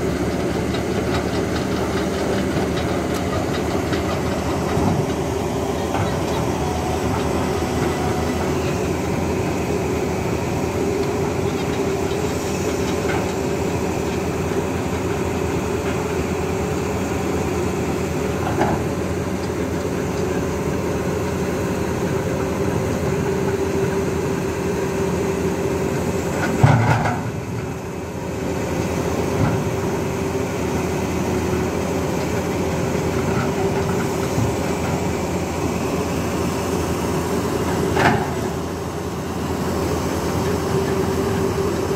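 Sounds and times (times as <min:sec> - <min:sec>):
excavator diesel engine running: 0:00.0 - 0:41.9
clanks from excavator: 0:00.1 - 0:09.8, 0:10.4 - 0:24.5, 0:25.2 - 0:36.6, 0:37.2 - 0:41.9.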